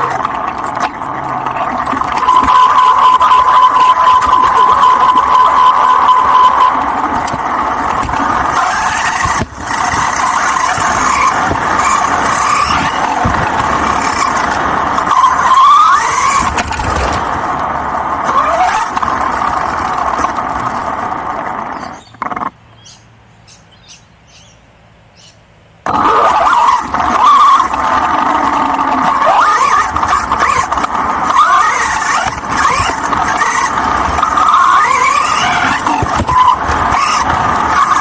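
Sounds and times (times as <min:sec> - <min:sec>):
toy car motor whining: 0:00.0 - 0:22.6, 0:25.8 - 0:38.0
tyre and ground noise: 0:00.0 - 0:24.5, 0:25.3 - 0:38.0.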